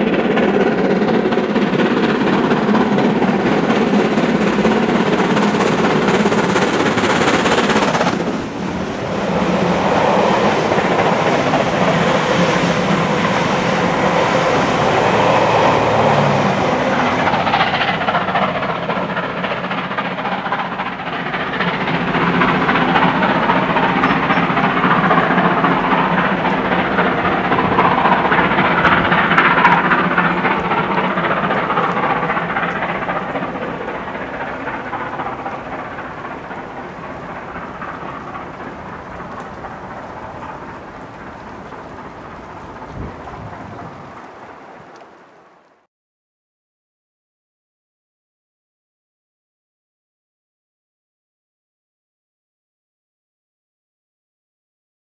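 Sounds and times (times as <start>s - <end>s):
steam locomotive exhaust: 0.0s - 45.3s
rattle of passing coaches: 0.0s - 45.7s.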